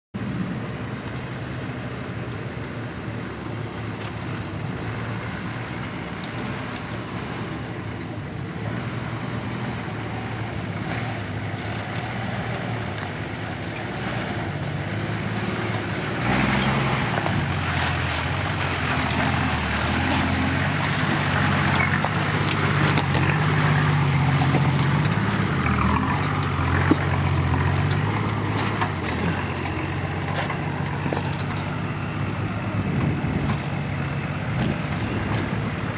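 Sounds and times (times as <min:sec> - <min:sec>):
off-road vehicle engine climbing: 0:00.1 - 0:35.9.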